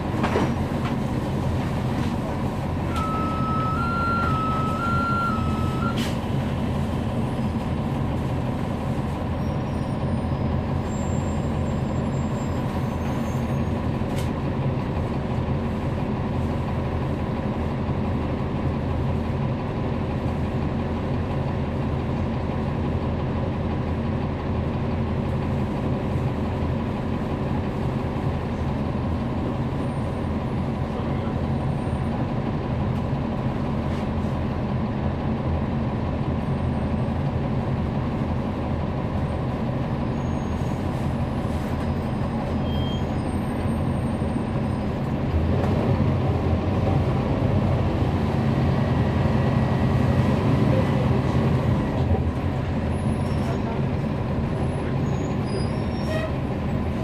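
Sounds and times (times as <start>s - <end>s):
bus diesel engine humming: 0.0s - 57.0s.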